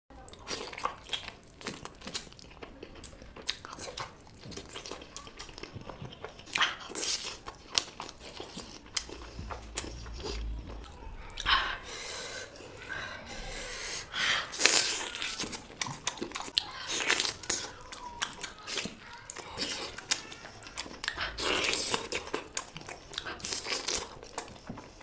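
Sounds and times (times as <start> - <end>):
person chewing and crunching food: 0.1 - 25.0.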